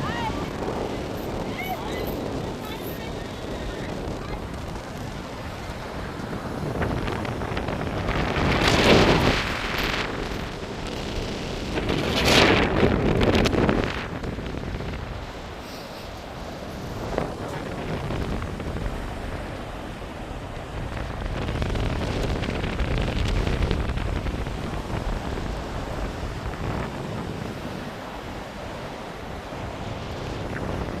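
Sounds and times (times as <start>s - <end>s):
ocean surf washing onto beach: 0.0s - 31.0s
wind rumbling on microphone: 0.0s - 31.0s.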